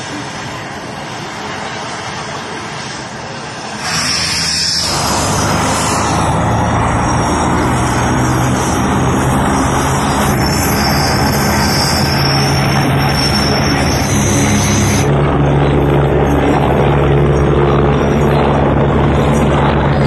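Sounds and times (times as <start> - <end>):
helicopter turbine engine running: 0.0 - 20.0
high whine: 0.0 - 20.0.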